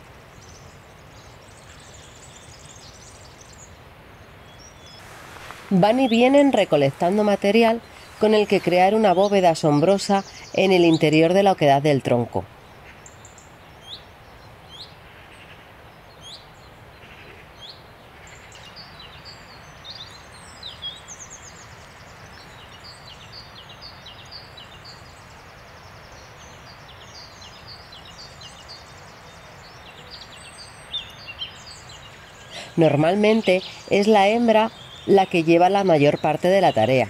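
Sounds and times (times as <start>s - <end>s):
songbirds chirping and trilling: 0.0s - 37.0s
steady background hiss: 0.0s - 37.0s.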